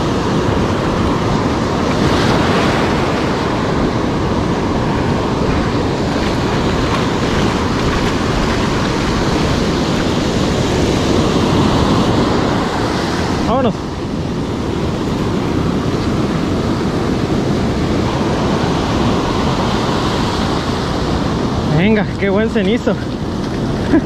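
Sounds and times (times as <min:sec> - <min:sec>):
ocean surf breaking on sand: 0:00.0 - 0:24.0
wind buffeting microphone: 0:00.0 - 0:24.0.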